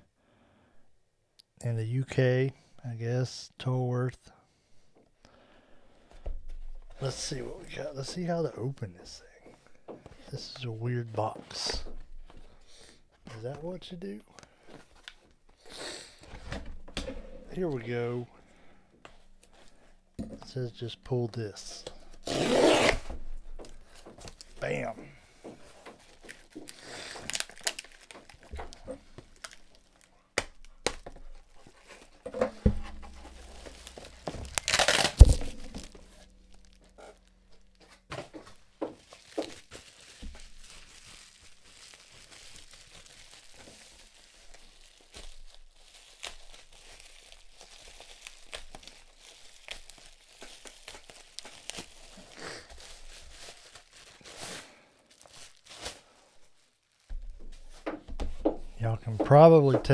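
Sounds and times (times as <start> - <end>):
bubble wrap crinkling: 6.5 - 12.8, 14.8 - 59.9.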